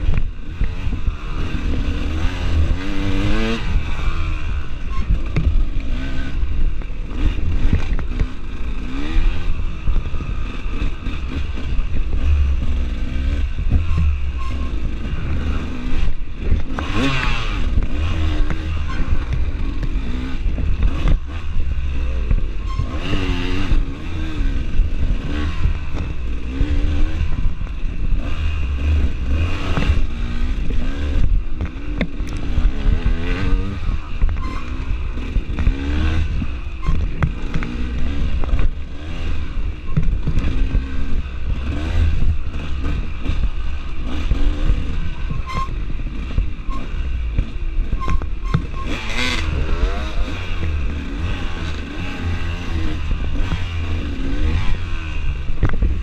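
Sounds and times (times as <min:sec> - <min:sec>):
bike knocking and rattling: 0:00.0 - 0:56.0
dirt bike engine revving: 0:00.0 - 0:56.0
low wind rumble on microphone: 0:00.0 - 0:56.0.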